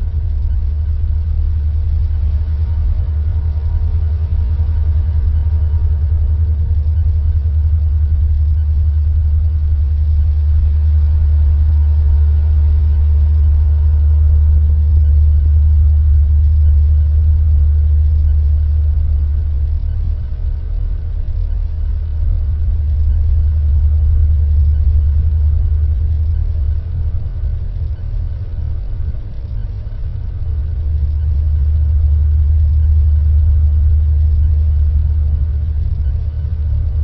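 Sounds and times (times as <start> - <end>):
faint held higher tones: 0.0 - 37.0
synthesized deep drone: 0.0 - 37.0.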